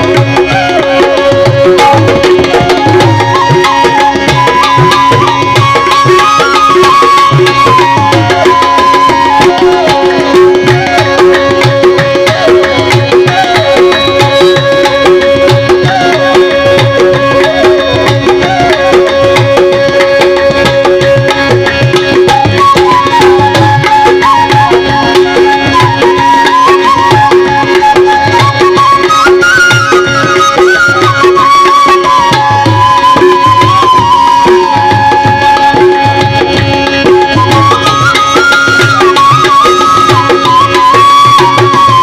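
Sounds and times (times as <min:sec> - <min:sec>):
tabla rhythm: 0:00.0 - 0:42.0
wandering melody line: 0:00.0 - 0:42.0.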